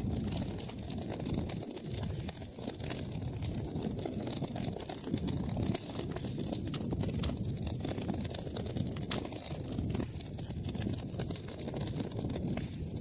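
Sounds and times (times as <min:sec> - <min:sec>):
fire crackling and popping: 0:00.0 - 0:13.0
fire rumbling: 0:00.0 - 0:13.0.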